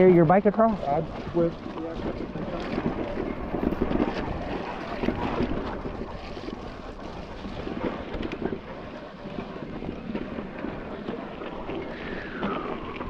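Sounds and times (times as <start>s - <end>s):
creek water rushing and splashing: 0.0s - 13.0s.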